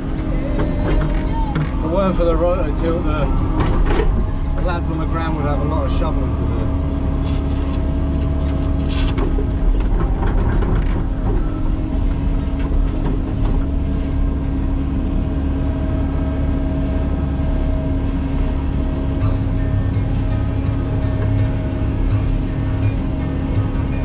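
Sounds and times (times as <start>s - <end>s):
excavator engine drone and whine: 0.0s - 24.0s.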